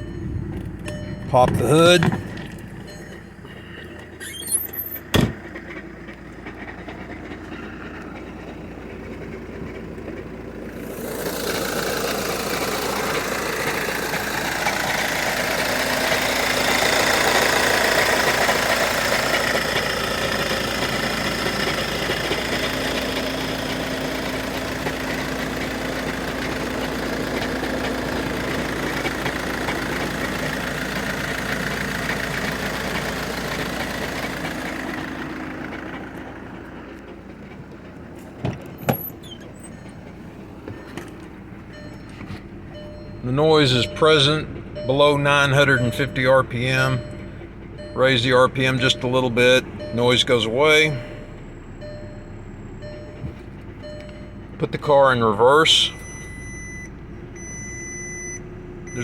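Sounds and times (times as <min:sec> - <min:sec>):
diesel engine starting and idling: 0:00.0 - 0:59.0.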